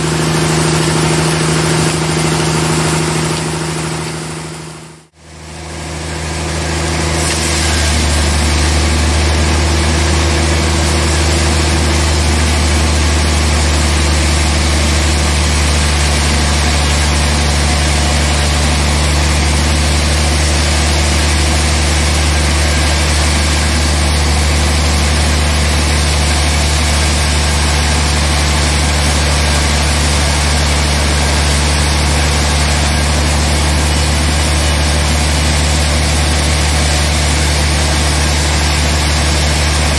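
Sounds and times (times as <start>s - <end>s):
band saw cutting wood: 0.0s - 39.9s
low machine hum: 0.0s - 39.9s.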